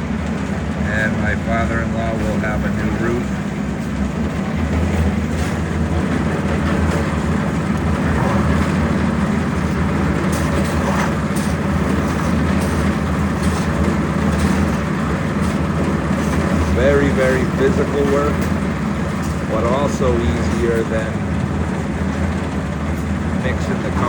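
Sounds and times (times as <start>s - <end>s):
concrete mixer engine humming: 0.0s - 24.0s.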